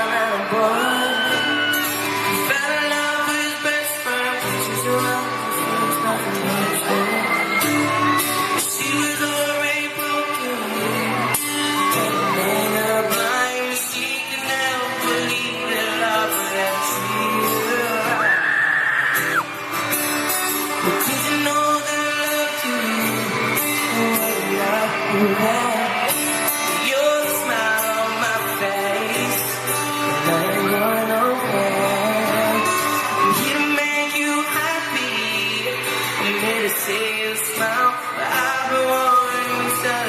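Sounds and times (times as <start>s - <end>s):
pop song over sound system: 0.0s - 40.0s.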